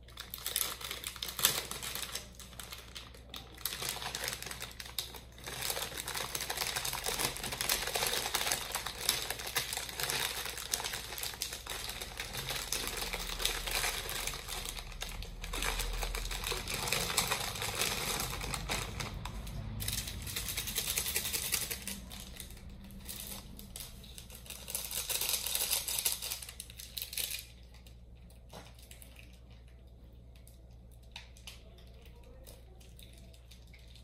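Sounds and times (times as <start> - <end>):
plastic packets crinkling and tearing: 0.0 - 34.0.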